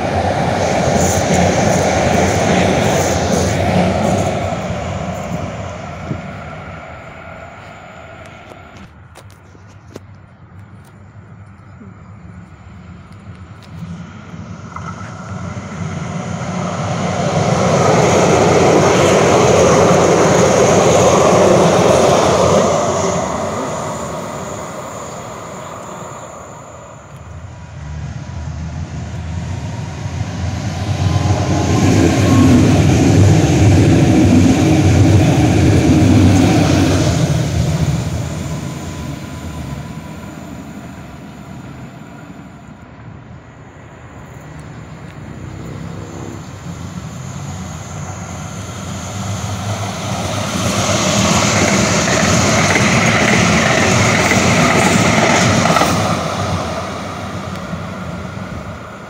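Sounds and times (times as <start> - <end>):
trains passing: 0.0 - 59.0.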